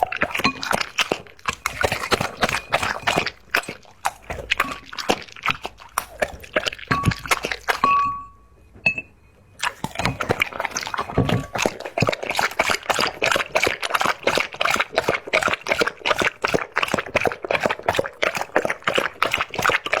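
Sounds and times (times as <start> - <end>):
dog lapping liquid: 0.0 - 8.2, 9.6 - 20.0.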